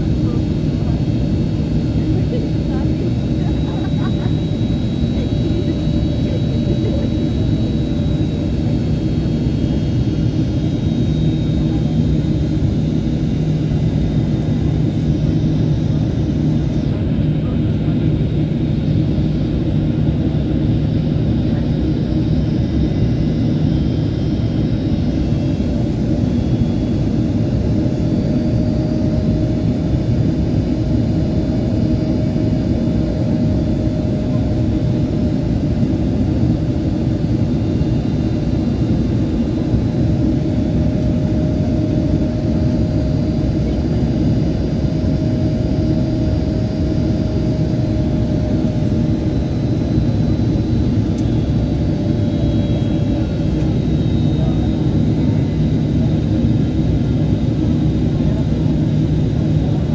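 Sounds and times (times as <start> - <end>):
jet cabin rumble: 0.0 - 59.9.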